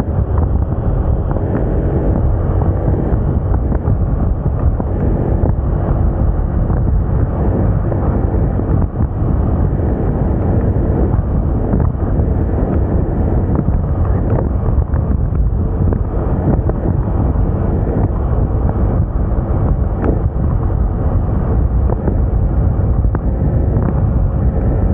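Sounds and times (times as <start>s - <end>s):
scooter engine drone: 0.0s - 24.9s
wind rumble on microphone: 0.0s - 24.9s.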